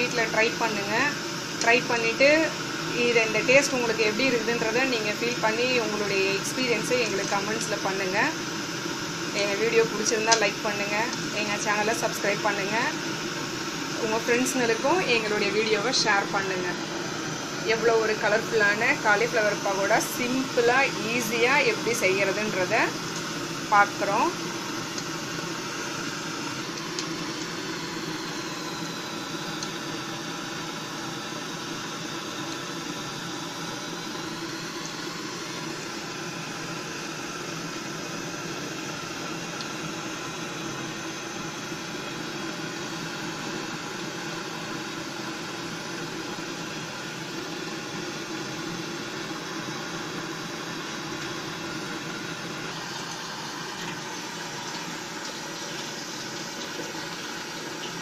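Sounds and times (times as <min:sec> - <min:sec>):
hot oil sizzling: 0:00.0 - 0:58.0.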